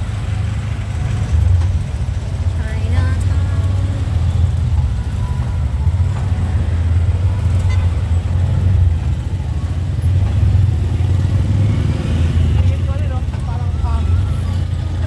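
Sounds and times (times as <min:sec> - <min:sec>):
motorcycle engines rumbling: 0:00.0 - 0:15.0.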